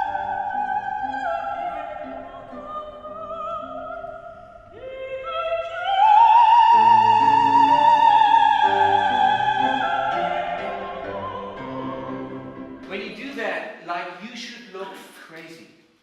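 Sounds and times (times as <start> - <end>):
soprano singing opera: 0.0 - 12.8.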